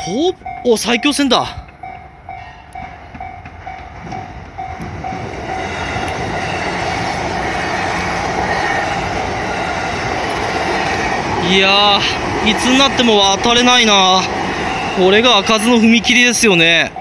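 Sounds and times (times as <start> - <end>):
level-crossing warning bell: 0.0 - 17.0
train rumble: 0.0 - 17.0.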